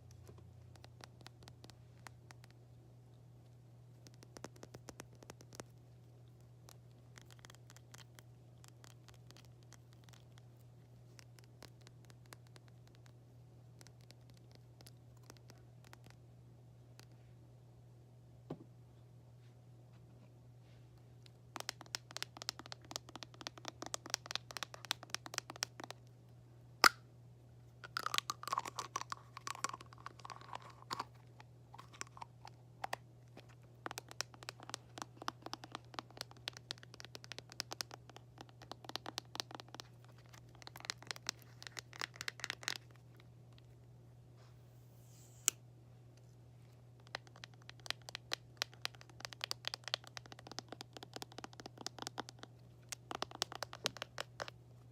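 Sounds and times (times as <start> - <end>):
steady low hum: 0.0 - 51.5.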